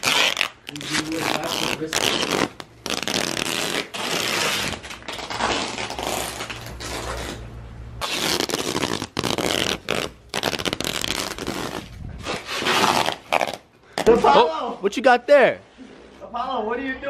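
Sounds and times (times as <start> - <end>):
duct tape ripping off roll: 0.0 - 14.4.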